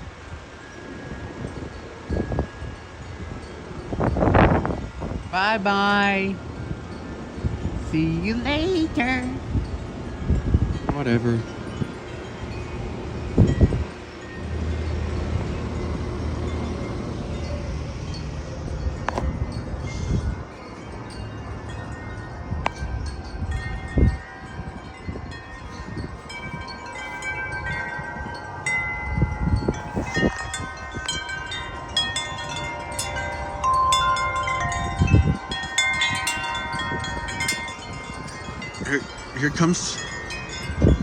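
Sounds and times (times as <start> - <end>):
metal wind chimes ringing: 0.0 - 41.0
wind gusts buffeting microphone: 0.0 - 41.0.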